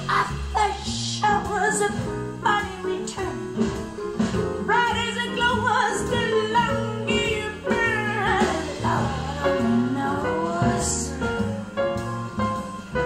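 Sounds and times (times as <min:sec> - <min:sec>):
steady bass line: 0:00.0 - 0:13.0.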